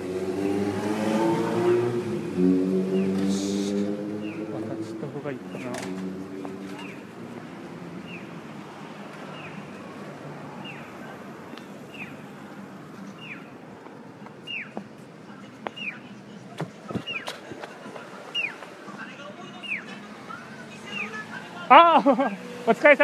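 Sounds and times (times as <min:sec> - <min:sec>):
street noise hum: 0:00.0 - 0:23.0.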